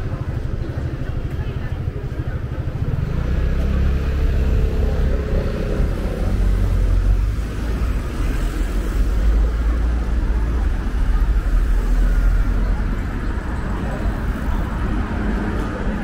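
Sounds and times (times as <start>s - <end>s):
cars driving past: 2.8s - 16.0s.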